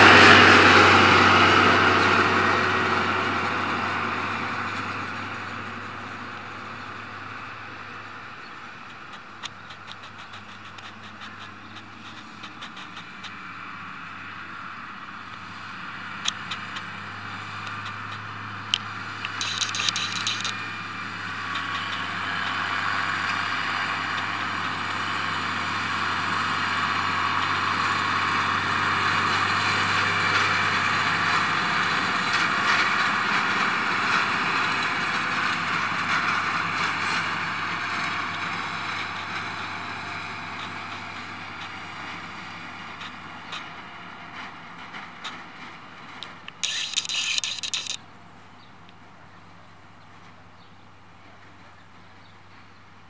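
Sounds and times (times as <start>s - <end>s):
loader wagon chopping grass: 0.0s - 48.0s
tractor engine under load: 0.0s - 53.0s.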